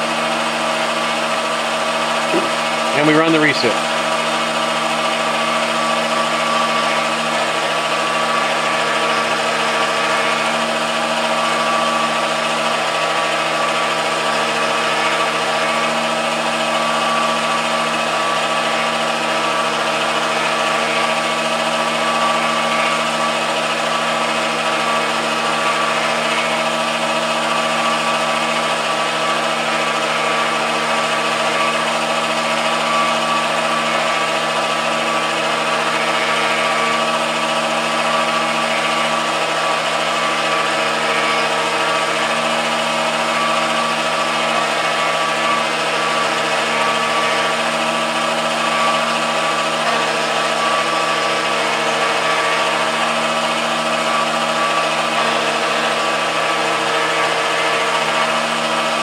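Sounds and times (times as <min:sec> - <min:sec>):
lathe machine whine: 0:00.0 - 0:59.0.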